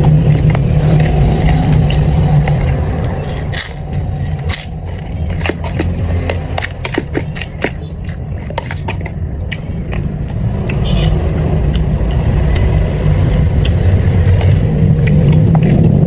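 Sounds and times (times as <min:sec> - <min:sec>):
eating and utensil clicks: 0:00.0 - 0:16.0
low engine rumble: 0:00.0 - 0:16.0.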